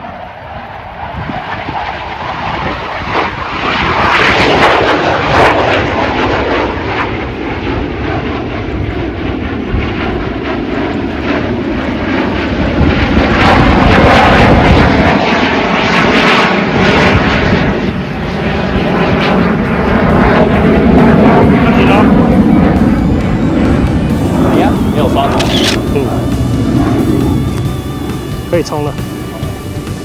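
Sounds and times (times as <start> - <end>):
fighter jet engine roar: 0.0 - 30.0.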